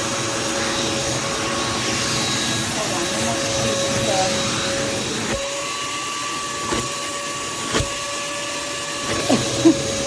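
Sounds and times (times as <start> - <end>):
shop vacuum whining: 0.0 - 10.0.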